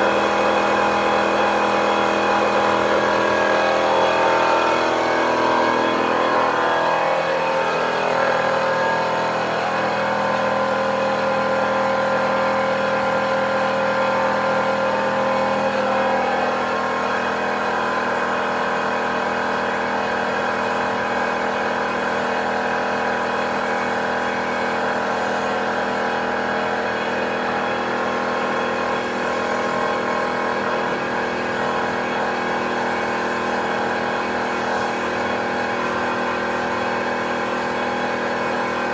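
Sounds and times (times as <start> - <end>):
air compressor motor humming: 0.0 - 38.9.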